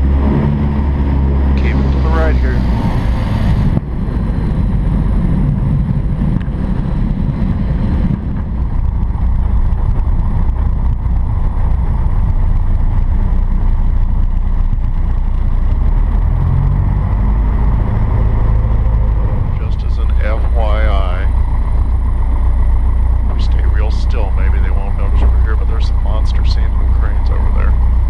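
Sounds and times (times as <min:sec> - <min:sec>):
light aircraft engine and propeller: 0:00.0 - 0:28.0.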